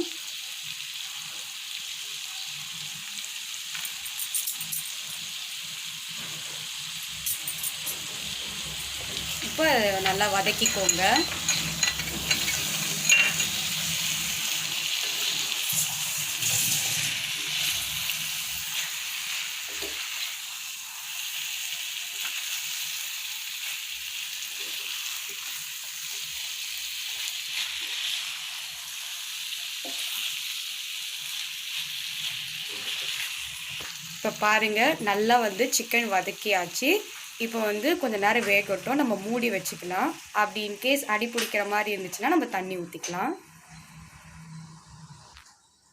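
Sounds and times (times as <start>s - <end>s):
food sizzling in skillet: 0.0s - 44.9s.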